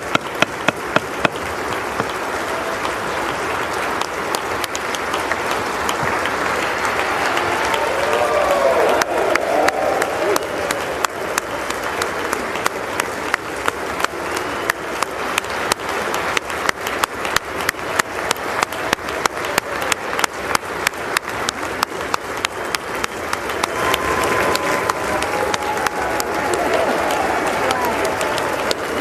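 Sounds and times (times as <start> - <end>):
large audience applause: 0.0 - 29.0.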